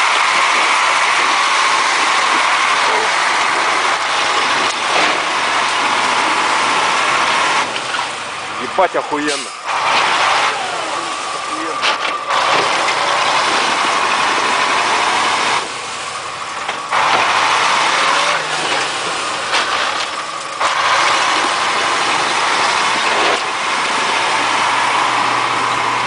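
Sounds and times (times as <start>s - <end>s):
truck engine working hard: 0.0s - 26.0s.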